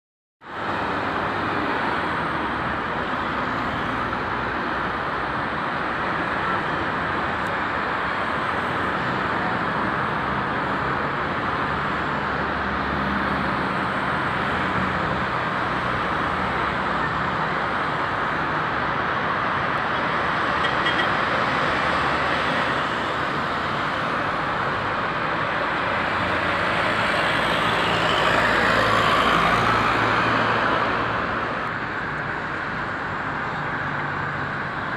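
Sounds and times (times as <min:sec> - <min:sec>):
road traffic noise: 0:00.4 - 0:34.9.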